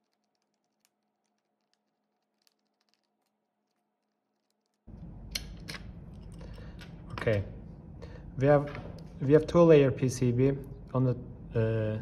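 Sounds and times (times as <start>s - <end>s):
room noise: 0.0s - 12.0s.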